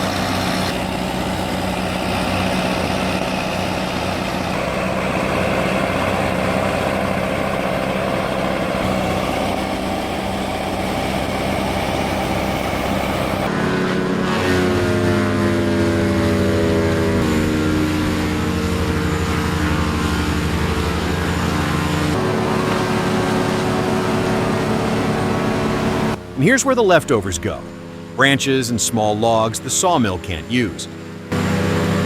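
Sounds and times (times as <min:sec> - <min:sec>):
diesel machinery engine running: 0:00.0 - 0:32.0
engine humming evenly: 0:00.0 - 0:32.0.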